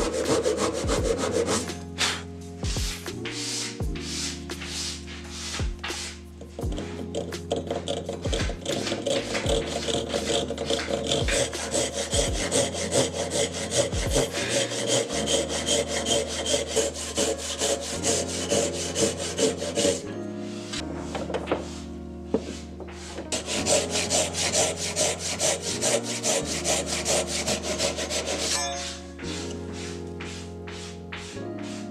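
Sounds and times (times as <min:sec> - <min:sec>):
hand saw cutting wood: 0:00.0 - 0:02.3, 0:03.1 - 0:21.7, 0:22.3 - 0:31.9
background music: 0:00.0 - 0:31.9.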